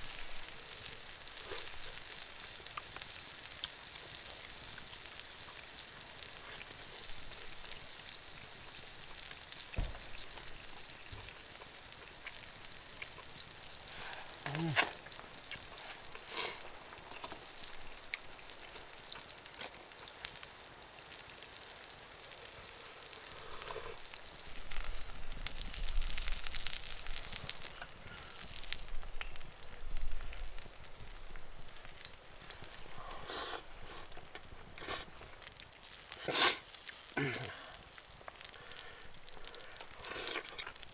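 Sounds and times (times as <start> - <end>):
offal sizzling over campfire: 0.0 - 40.9.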